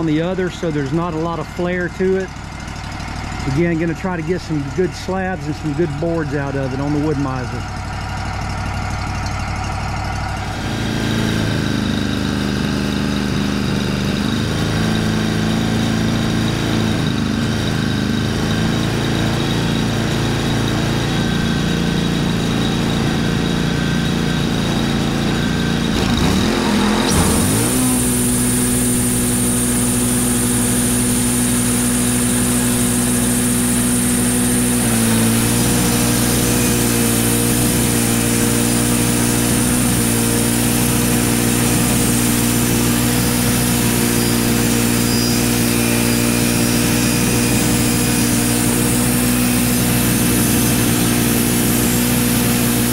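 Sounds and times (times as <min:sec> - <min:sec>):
saw blade cutting log: 0:00.0 - 0:02.4, 0:03.3 - 0:07.7, 0:10.4 - 0:52.9
band saw blade whining: 0:00.0 - 0:52.9
sawmill engine running: 0:00.0 - 0:52.9.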